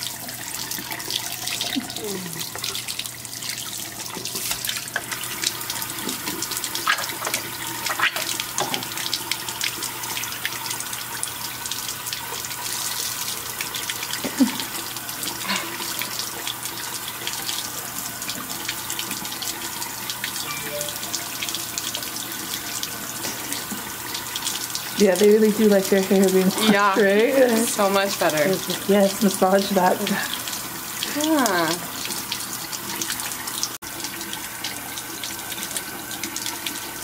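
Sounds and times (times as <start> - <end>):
tap water running into a sink: 0.0 - 37.0.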